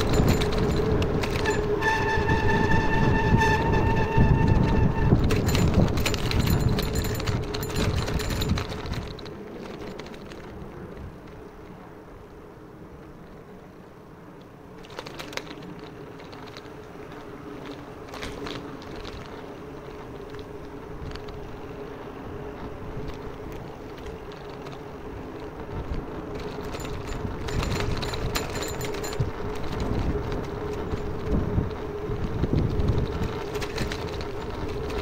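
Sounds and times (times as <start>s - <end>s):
light clicks and rustles: 0.0s - 1.8s, 4.6s - 11.8s, 14.4s - 35.0s
wind buffeting microphone: 0.0s - 12.1s, 14.7s - 35.0s
low street hum: 0.0s - 35.0s.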